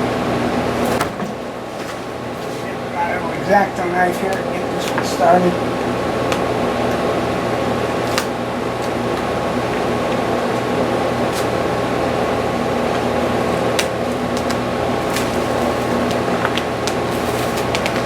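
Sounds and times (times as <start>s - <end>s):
fan humming: 0.0s - 18.0s.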